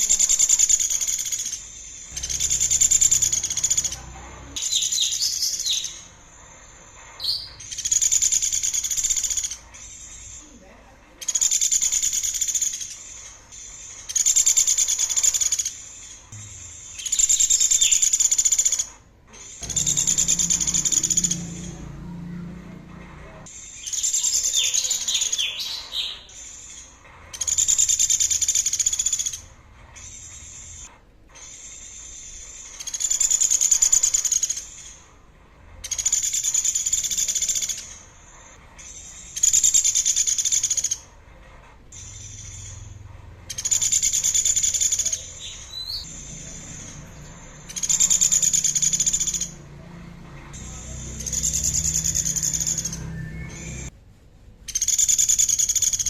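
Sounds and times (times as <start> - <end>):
songbird buzzy rattling call: 0.0 - 10.5, 11.2 - 35.2, 35.8 - 41.1, 41.9 - 53.9, 54.7 - 56.0.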